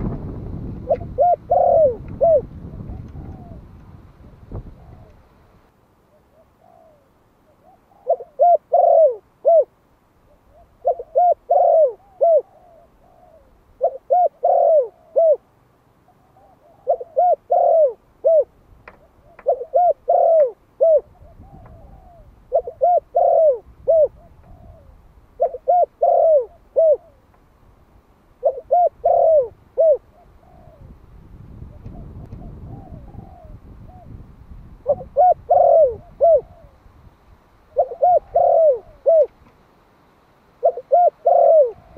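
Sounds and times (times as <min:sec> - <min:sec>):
dove cooing: 0:00.0 - 0:03.8, 0:04.5 - 0:05.4, 0:06.1 - 0:27.3, 0:28.4 - 0:36.9, 0:37.6 - 0:39.4, 0:40.6 - 0:41.9.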